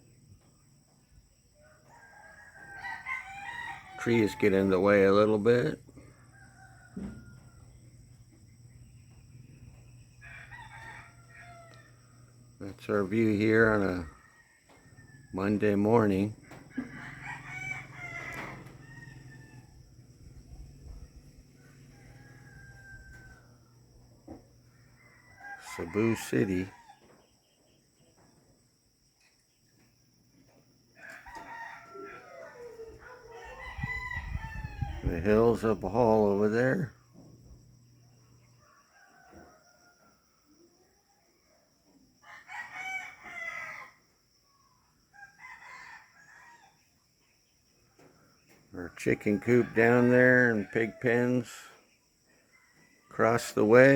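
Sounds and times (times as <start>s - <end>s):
roosters crowing faintly: 0.0s - 53.9s.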